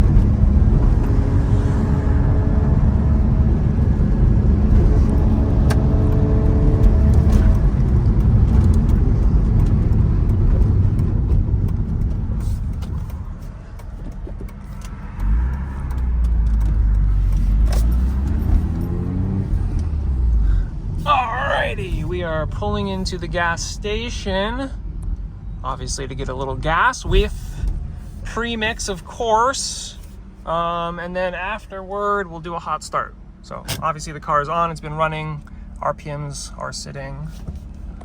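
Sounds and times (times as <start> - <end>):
rotary car engine running: 0.0 - 38.0.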